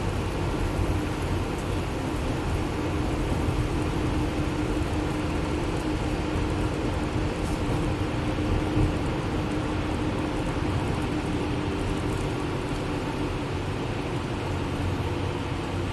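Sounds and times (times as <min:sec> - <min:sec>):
bus engine and road rumble: 0:00.0 - 0:15.9
constant hum: 0:00.0 - 0:15.9.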